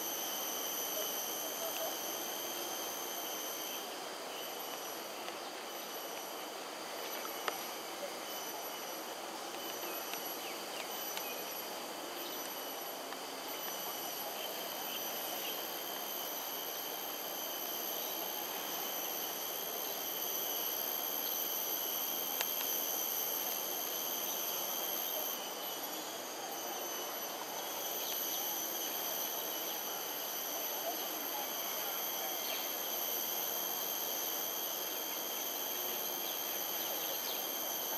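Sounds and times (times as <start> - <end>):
insects buzzing: 0.0 - 37.9.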